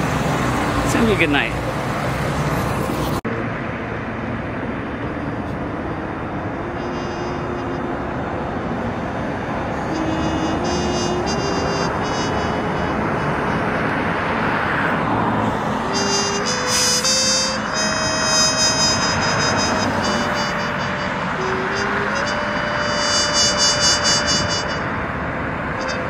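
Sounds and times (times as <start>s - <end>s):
street traffic rushing: 0.0s - 26.0s.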